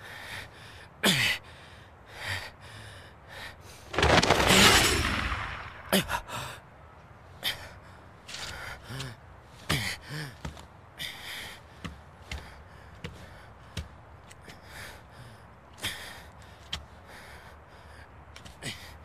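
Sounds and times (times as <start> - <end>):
man breathing heavily: 0.0 - 4.0, 5.9 - 19.0.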